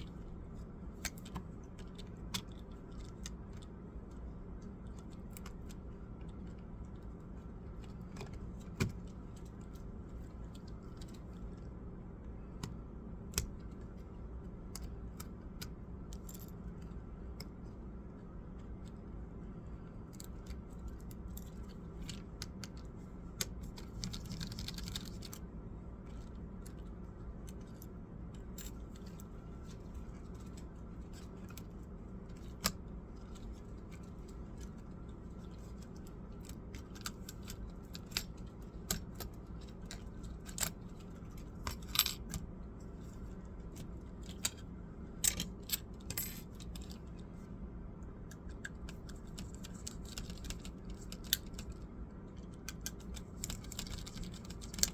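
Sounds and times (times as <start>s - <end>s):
steady low hum: 0.0s - 54.9s
small clicks of laptop parts: 0.9s - 11.7s, 12.4s - 17.6s, 20.0s - 25.5s, 26.1s - 47.2s, 48.2s - 54.9s.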